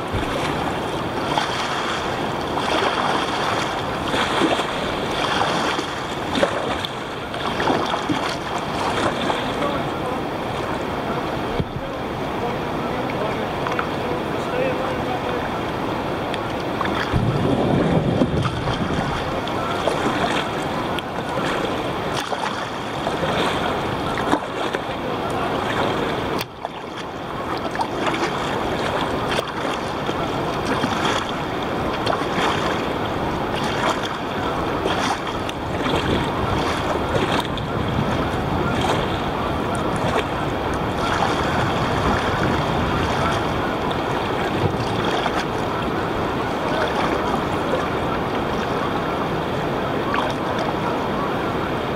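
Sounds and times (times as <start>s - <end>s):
wind buffeting the microphone: 0.0s - 14.2s, 15.3s - 26.6s, 27.3s - 51.9s
water splashing against a kayak: 0.0s - 51.9s.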